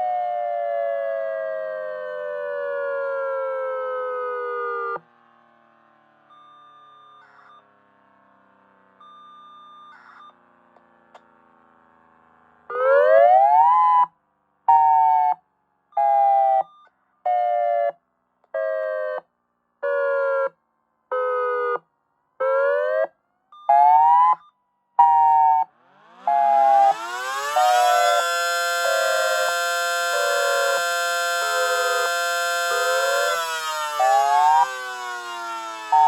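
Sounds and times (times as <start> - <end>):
mechanical siren rising wail: 0.0 - 7.6, 12.1 - 15.4, 16.0 - 21.8, 22.4 - 36.0
electronic siren pulsed wail: 0.0 - 7.9, 12.1 - 15.4, 16.0 - 18.0, 18.6 - 21.8, 22.4 - 36.0.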